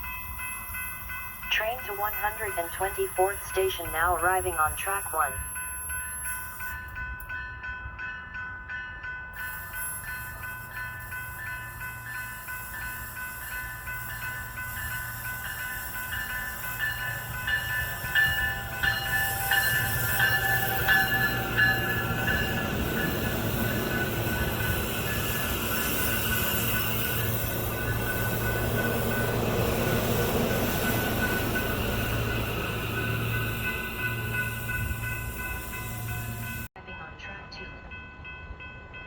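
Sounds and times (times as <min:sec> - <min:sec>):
crossing warning bell ringing: 0:00.0 - 0:39.0
train rumble and wheel noise: 0:00.0 - 0:39.0.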